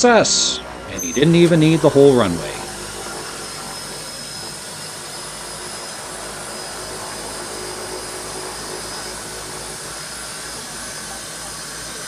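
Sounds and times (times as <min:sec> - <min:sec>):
thin high whine: 0:00.0 - 0:12.0
turboprop cabin drone: 0:00.0 - 0:12.0.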